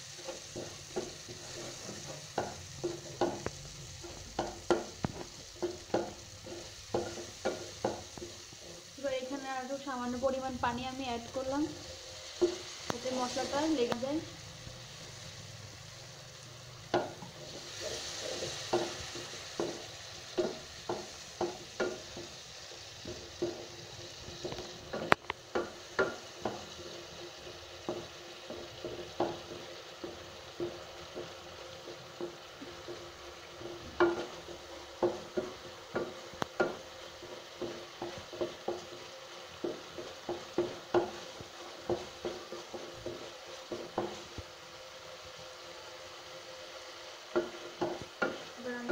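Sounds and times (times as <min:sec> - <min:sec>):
food sizzling in oil: 0:00.0 - 0:48.9
wooden spatula knocking metal pot: 0:00.2 - 0:11.6, 0:16.9 - 0:22.4, 0:23.0 - 0:44.4, 0:47.3 - 0:48.9.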